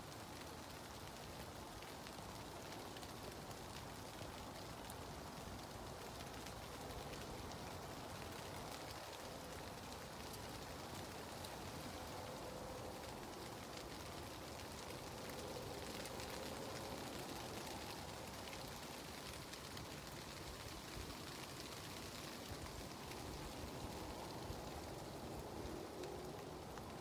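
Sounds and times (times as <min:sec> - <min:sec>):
rain pattering on fabric: 0:00.0 - 0:27.0.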